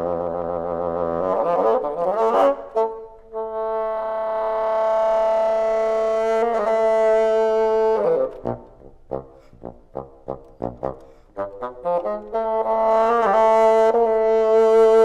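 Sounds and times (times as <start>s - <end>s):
solo bassoon: 0.0s - 15.0s.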